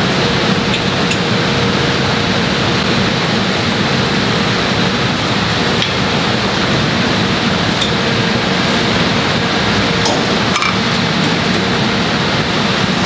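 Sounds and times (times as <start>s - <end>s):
machinery hum and hiss: 0.0s - 13.0s.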